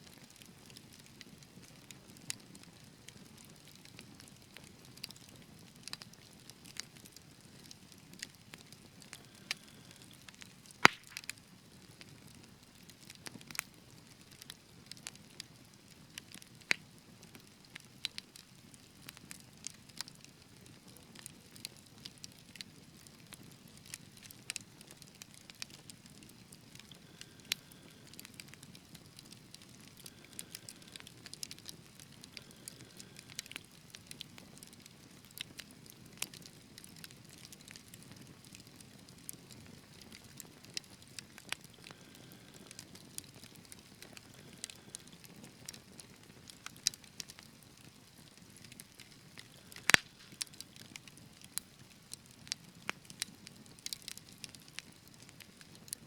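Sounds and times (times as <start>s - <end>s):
rustle of flames: 0.0s - 56.0s
wood fire popping and snapping: 0.0s - 56.0s.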